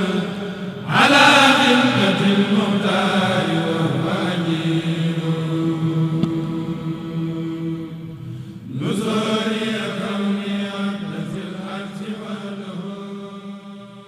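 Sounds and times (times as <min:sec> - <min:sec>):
devotional chanting in long notes: 0:00.0 - 0:14.0.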